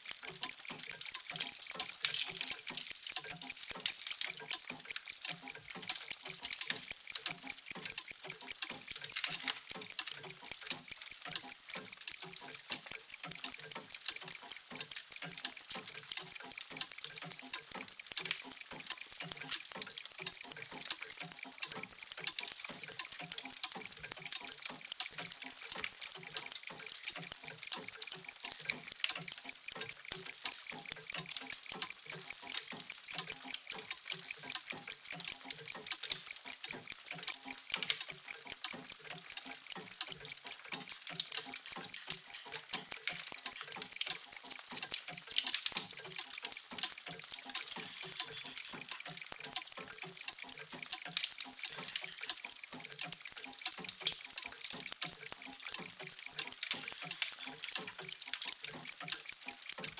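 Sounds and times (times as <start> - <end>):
many mechanical clocks ticking: 0.0 - 59.9.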